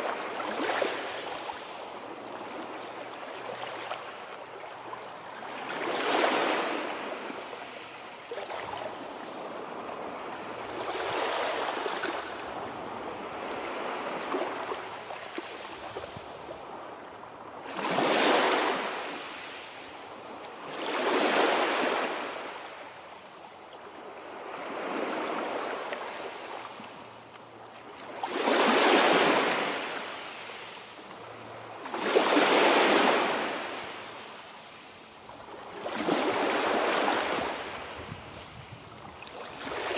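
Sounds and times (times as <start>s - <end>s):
sea waves breaking on shore: 0.0s - 23.0s, 24.0s - 39.9s.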